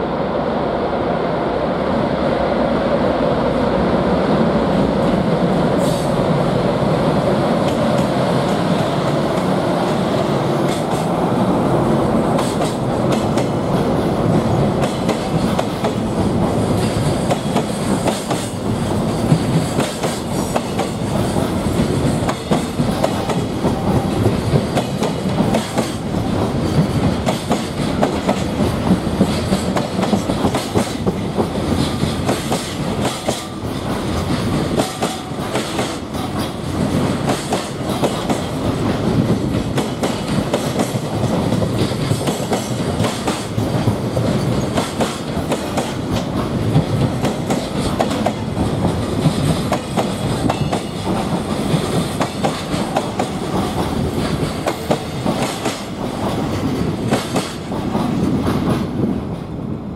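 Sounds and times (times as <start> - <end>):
electric locomotive humming: 0.0 - 59.9.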